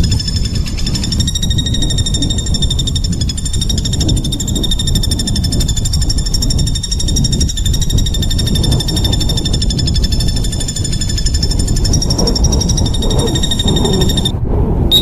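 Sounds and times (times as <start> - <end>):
songbird harsh rapid trill: 0.0 - 14.3
low rumble: 0.0 - 15.0.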